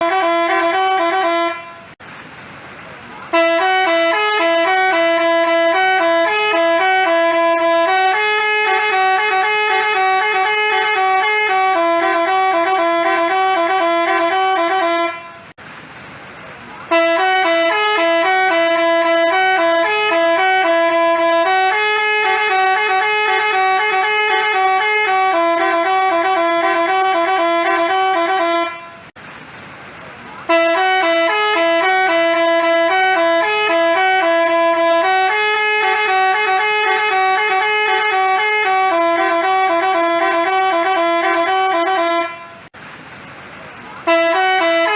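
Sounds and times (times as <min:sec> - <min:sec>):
musical bus horn playing a tune: 0:00.0 - 0:02.0, 0:03.3 - 0:15.6, 0:16.9 - 0:29.2, 0:30.5 - 0:42.7, 0:44.0 - 0:44.9.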